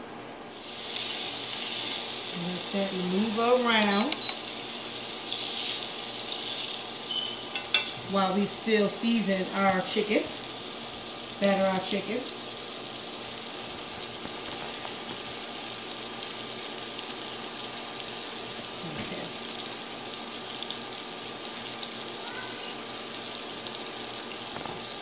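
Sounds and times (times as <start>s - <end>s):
butter sizzling in a frying pan: 0.5s - 25.0s.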